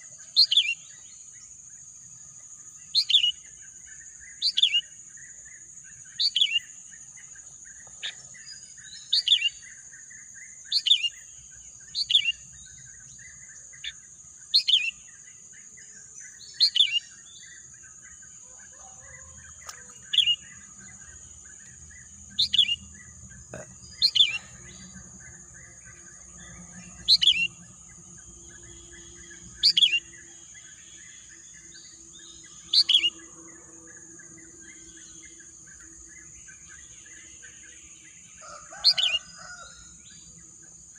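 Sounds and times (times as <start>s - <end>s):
birds twittering: 0.0s - 40.9s.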